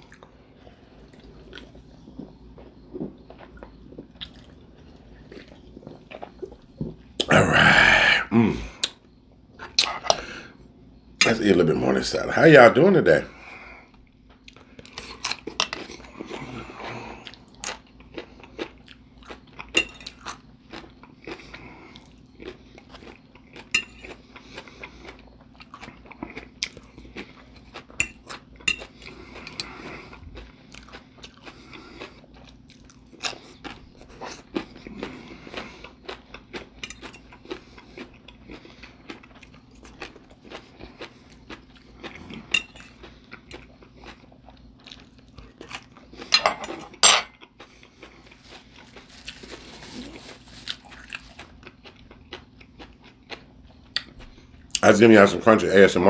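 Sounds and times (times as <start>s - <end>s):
person chewing crunchy salad: 0.0s - 9.0s, 13.3s - 54.8s.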